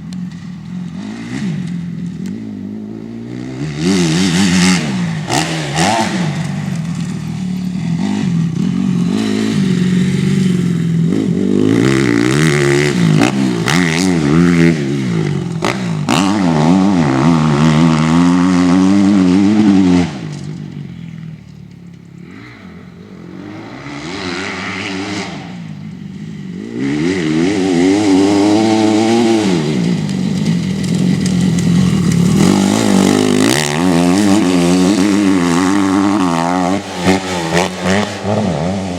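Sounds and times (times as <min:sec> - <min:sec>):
motocross bike engine revving: 0:00.0 - 0:21.3, 0:22.0 - 0:38.9.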